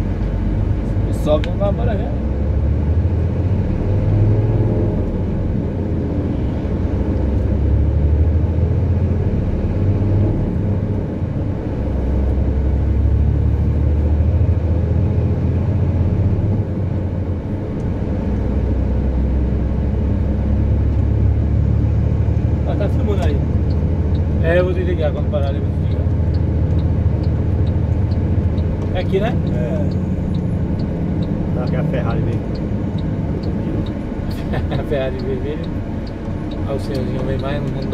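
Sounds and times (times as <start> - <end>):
engine and tyre rumble: 0.0 - 37.9.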